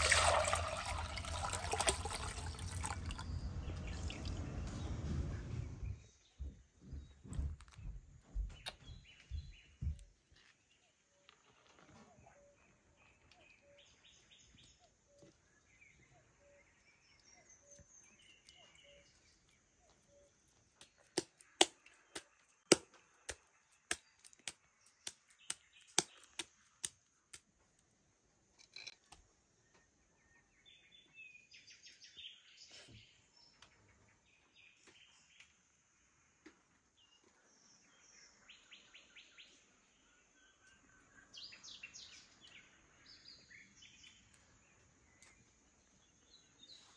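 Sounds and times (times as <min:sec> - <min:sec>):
birds chirping: 0:00.0 - 0:27.3, 0:28.7 - 0:46.9.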